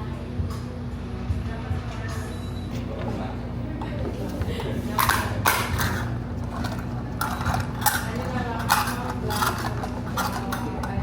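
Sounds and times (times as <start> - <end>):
faint voices: 0.0 - 11.0
steady background hum: 0.0 - 11.0
dishes and cutlery clinking: 2.1 - 11.0.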